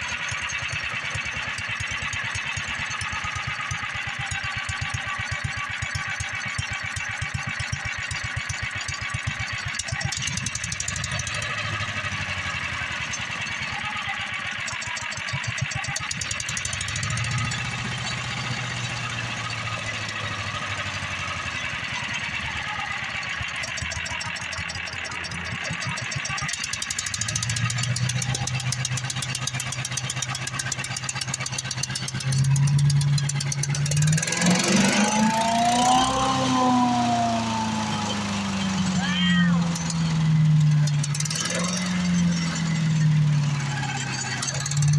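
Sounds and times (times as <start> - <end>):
wood chipper engine running: 0.0 - 44.9.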